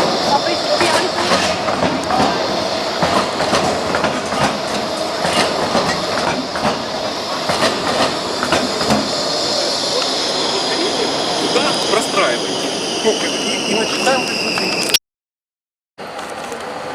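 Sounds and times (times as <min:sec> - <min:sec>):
tram wheels clacking over rail joints: 0:00.0 - 0:14.9
tram running noise: 0:00.0 - 0:15.0, 0:16.0 - 0:16.9.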